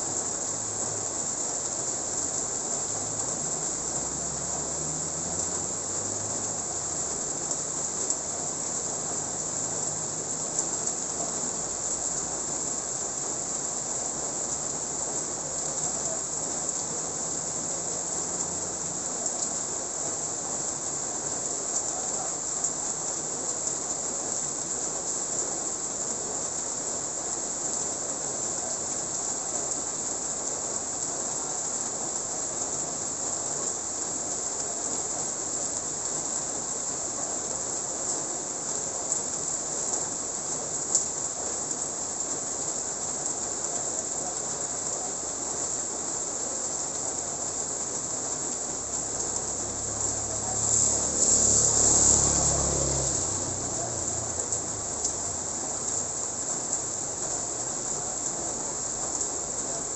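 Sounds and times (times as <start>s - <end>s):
light rain on road and roofs: 0.0s - 59.9s.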